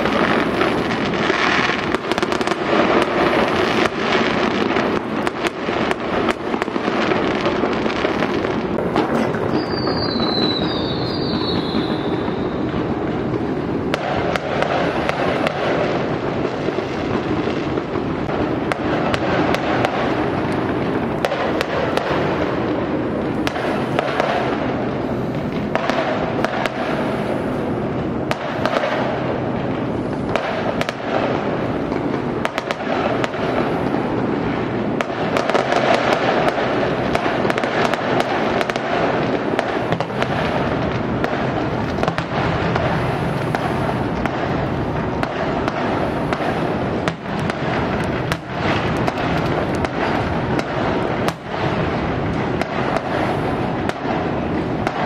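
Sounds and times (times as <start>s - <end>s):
fireworks and firecrackers popping: 0.0s - 55.0s.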